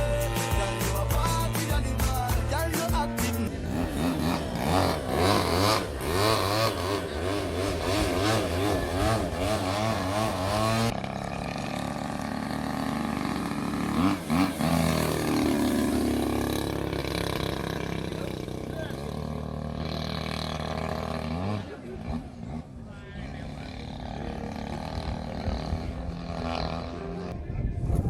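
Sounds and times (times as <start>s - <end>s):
model aeroplane engine in flight: 3.5s - 28.0s.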